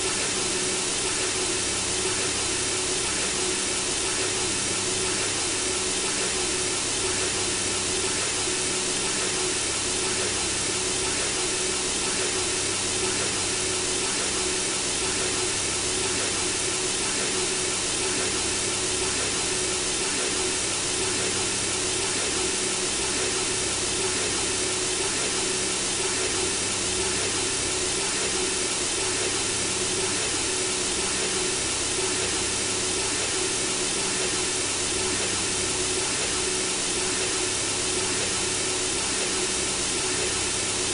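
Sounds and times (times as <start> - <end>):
synthesizer white noise: 0.0 - 40.9.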